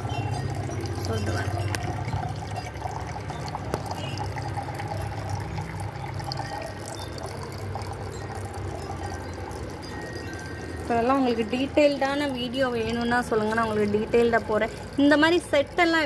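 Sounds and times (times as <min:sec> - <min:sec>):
water trickling into fountain basins: 0:00.0 - 0:16.0.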